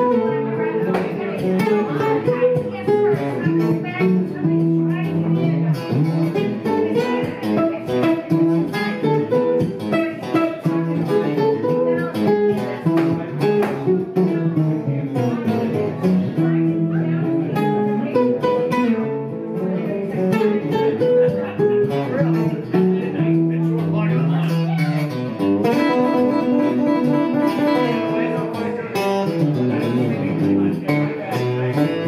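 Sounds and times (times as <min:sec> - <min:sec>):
electric guitar playing: 0:00.0 - 0:32.0.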